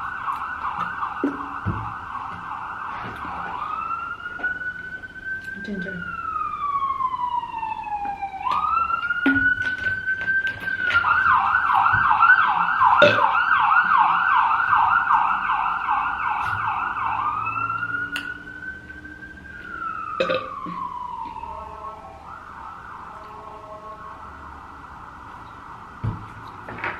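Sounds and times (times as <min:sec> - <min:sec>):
emergency vehicle siren: 0:00.0 - 0:26.9.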